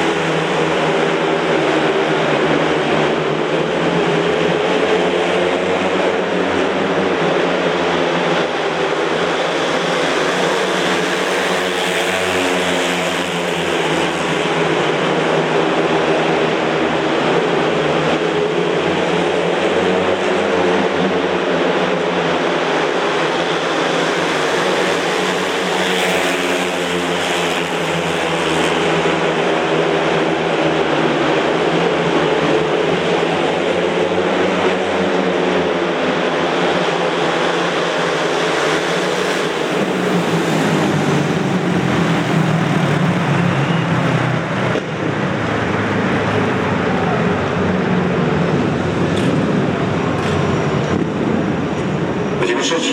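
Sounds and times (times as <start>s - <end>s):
motorcycles racing: 0.0s - 52.9s.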